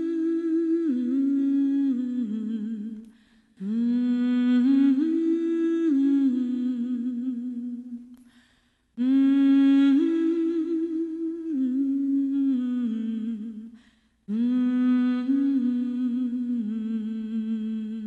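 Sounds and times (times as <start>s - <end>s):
solo voice humming a melody: 0.0s - 8.2s, 9.0s - 18.0s.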